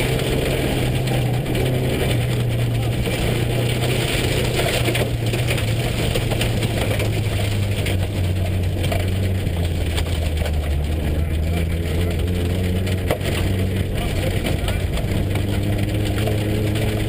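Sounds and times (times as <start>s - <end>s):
car engine running: 0.0s - 17.0s
tires crunching on gravel: 0.0s - 17.0s.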